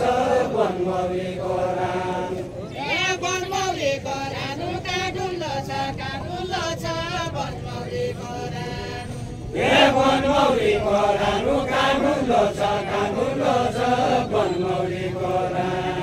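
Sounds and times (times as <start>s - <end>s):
group singing unaccompanied: 0.0s - 16.0s.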